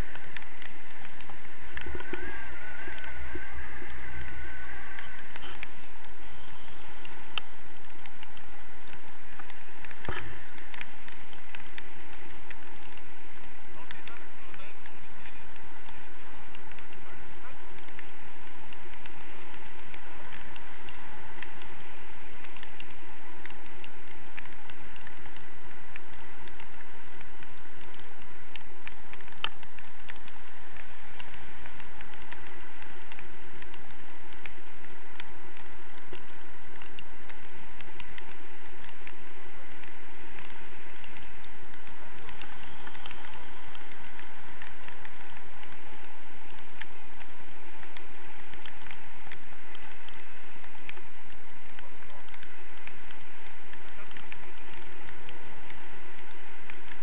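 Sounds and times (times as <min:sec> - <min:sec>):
small crackles and ticks: 0:00.0 - 0:57.0.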